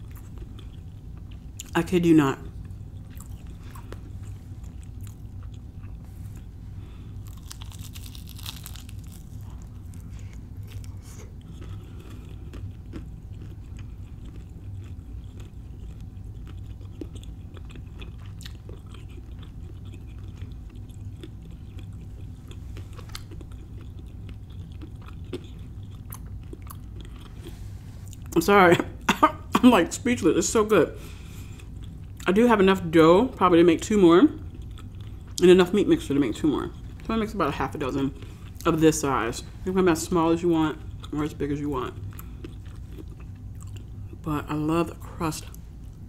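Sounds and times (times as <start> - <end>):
person chewing crunchy pastry: 0.0 - 1.8, 2.4 - 29.1, 31.0 - 32.3, 34.4 - 35.5, 36.2 - 38.8, 40.6 - 44.3.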